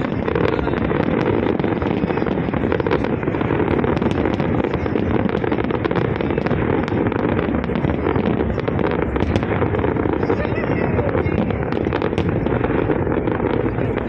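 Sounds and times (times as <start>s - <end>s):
dense rumble: 0.0s - 14.0s
fireworks cracks and pops: 0.0s - 14.0s.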